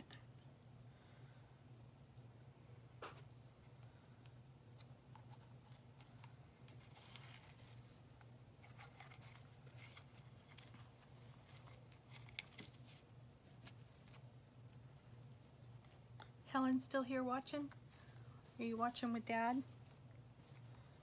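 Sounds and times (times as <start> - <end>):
low steady hum: 0.0 - 21.0
ribbon rustling: 3.0 - 16.5, 17.6 - 21.0.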